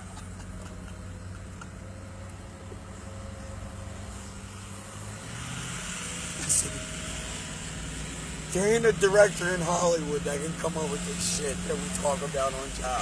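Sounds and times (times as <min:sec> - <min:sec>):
road noise: 0:00.0 - 0:13.0
truck engine hum: 0:00.0 - 0:13.0.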